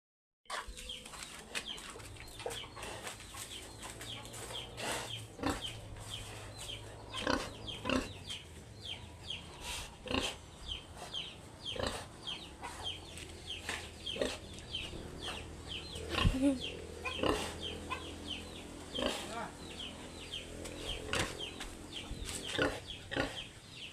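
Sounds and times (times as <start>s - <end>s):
chicks chirping: 0.5s - 23.9s.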